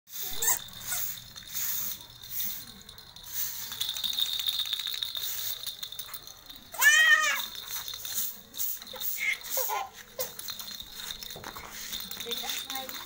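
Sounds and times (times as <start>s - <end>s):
plastic wheels rattling over concrete: 0.1s - 13.0s.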